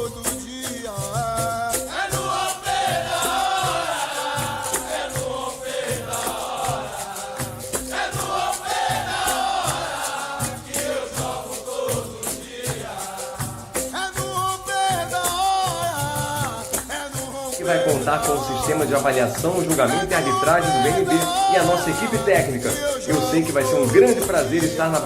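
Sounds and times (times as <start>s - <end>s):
berimbau: 0.0s - 25.0s
sung chant with chorus: 0.8s - 25.0s.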